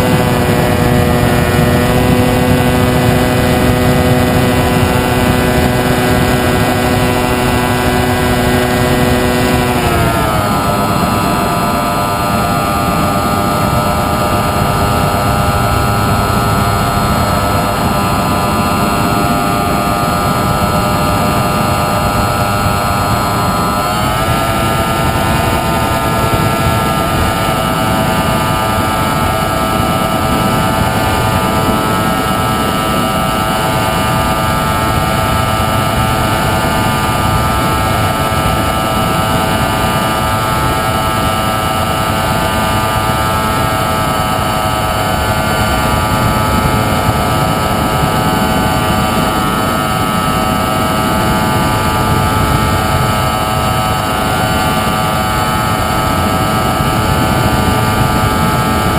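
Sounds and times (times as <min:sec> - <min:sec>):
model plane motor whining: 0:00.0 - 0:58.9
wind rush: 0:00.0 - 0:58.9.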